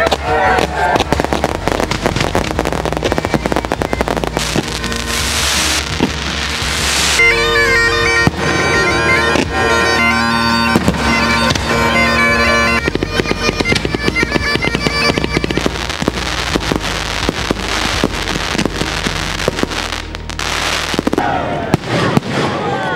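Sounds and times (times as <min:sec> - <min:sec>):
fireworks crackling and popping: 0:00.0 - 0:09.7, 0:10.6 - 0:11.9, 0:12.7 - 0:22.7
bagpipes playing melody: 0:00.0 - 0:21.1.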